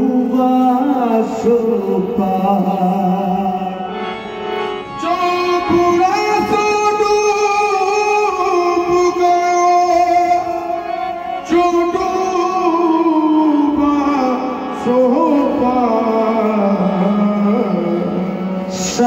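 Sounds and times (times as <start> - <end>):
harmonium: 0.0 - 19.0
person singing long notes: 0.0 - 19.0.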